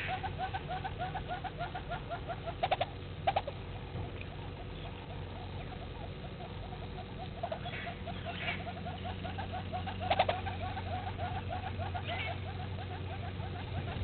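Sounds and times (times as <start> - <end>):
louder animal call: 0.0 - 3.6, 4.3 - 14.0.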